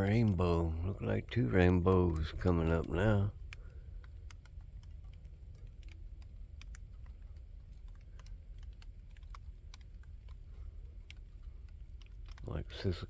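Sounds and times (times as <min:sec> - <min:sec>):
light ticks and clicks: 0:00.0 - 0:13.0
low steady rumble: 0:00.0 - 0:13.0.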